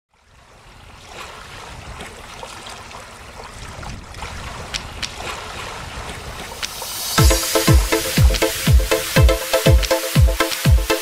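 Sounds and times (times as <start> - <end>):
sea surf washing on shore: 0.4 - 11.0.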